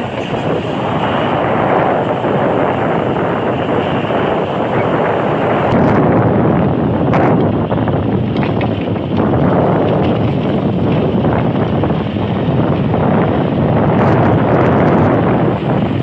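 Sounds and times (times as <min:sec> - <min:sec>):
vehicle running noise: 0:00.0 - 0:16.0
wind rushing over microphone: 0:00.0 - 0:16.0.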